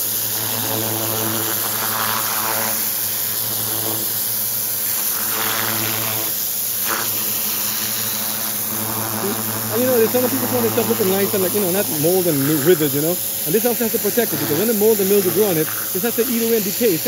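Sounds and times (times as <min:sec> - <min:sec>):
pump motor hum: 0:00.0 - 0:17.0
water jet hissing: 0:00.0 - 0:17.0.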